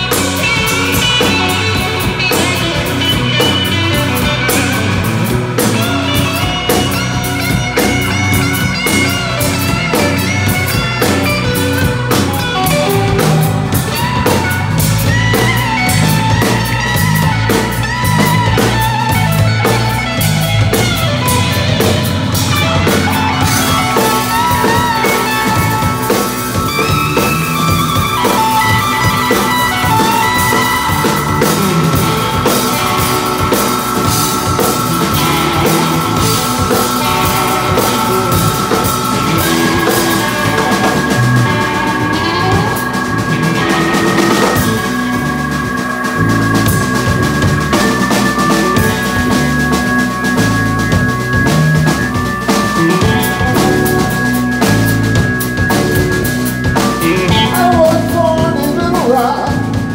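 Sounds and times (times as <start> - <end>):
drum kit with busy cymbals: 0.0 - 59.9
electric bass: 0.0 - 59.9
electric guitar lead lines: 0.0 - 59.9
keyboard: 0.0 - 59.9.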